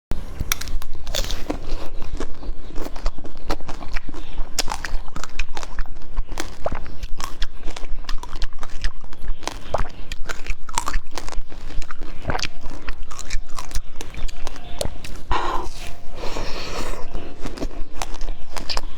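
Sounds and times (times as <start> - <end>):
mouth clicks: 0.4 - 18.9
person chewing crunchy food: 0.4 - 18.9.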